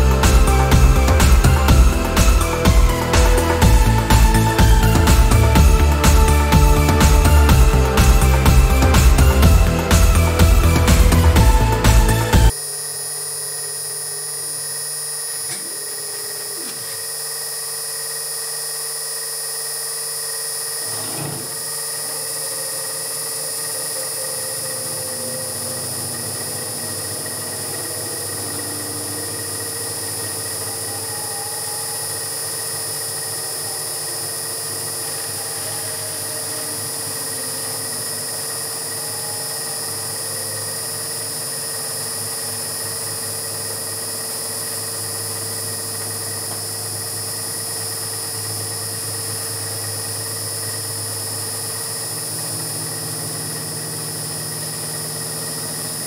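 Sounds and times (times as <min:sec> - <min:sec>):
milling machine cutting metal: 0:00.0 - 0:56.0.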